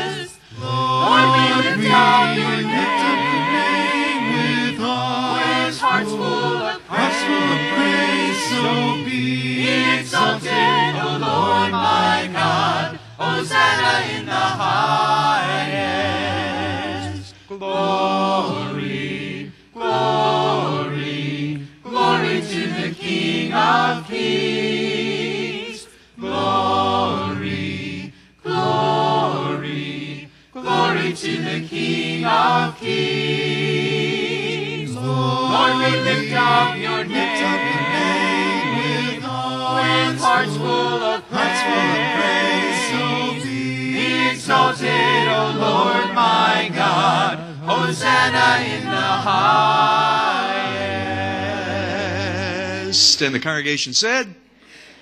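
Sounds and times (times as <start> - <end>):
congregation singing a hymn: 0.0 - 53.2.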